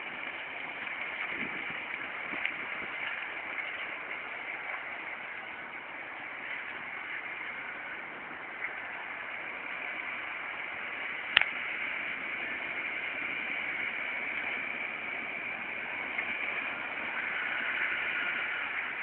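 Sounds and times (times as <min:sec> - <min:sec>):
tractor plough rushing noise: 0:00.0 - 0:19.0.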